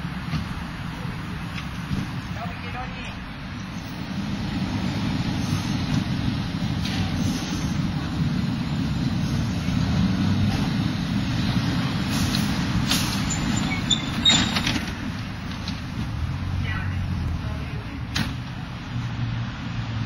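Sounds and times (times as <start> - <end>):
rumble of passing vehicles: 0.0 - 20.0.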